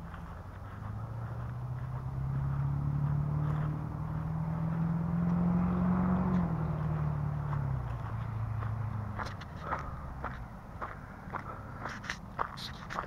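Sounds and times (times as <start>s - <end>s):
footsteps on gravel: 0.0s - 13.0s
vehicle engine humming: 0.0s - 13.0s.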